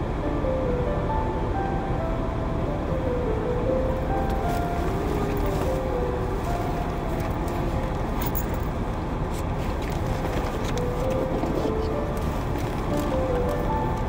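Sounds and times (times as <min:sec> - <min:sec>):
car road noise: 0:00.0 - 0:14.0
faint melody: 0:00.0 - 0:14.0.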